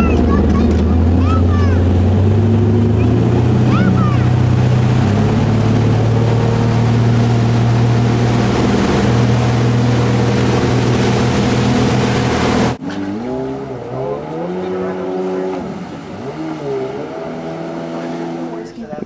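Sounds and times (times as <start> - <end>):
rushing water: 0.0 - 18.7
jet ski engine accelerating: 0.0 - 19.0
motorboat engine running: 0.0 - 19.0
wind: 0.0 - 19.0.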